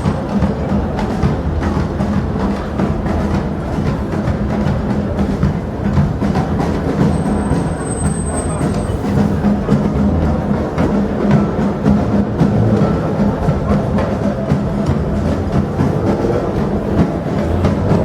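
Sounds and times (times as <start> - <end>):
percussion ensemble drumming: 0.0 - 18.0.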